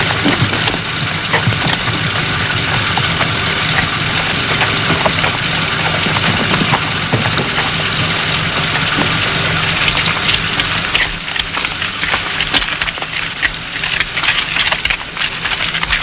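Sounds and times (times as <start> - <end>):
hand tools scraping stony ground: 0.0 - 16.0
low engine hum: 0.0 - 16.0.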